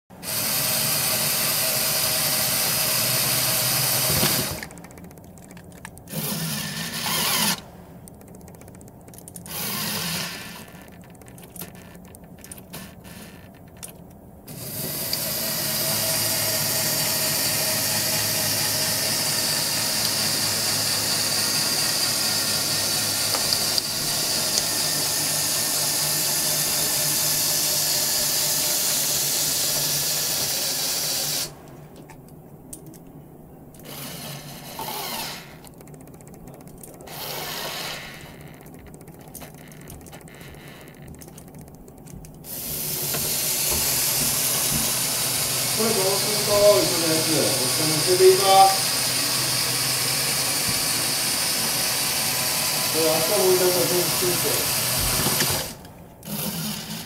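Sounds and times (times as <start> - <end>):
electric motor and gears whirring: 0.1 - 32.2, 33.7 - 57.0.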